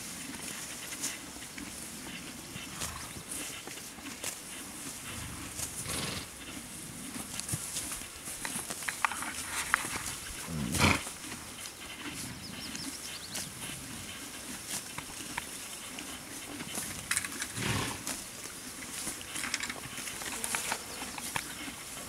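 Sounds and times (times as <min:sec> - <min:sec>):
horses chewing grass: 0:00.0 - 0:22.0
horse snorting: 0:00.3 - 0:22.0.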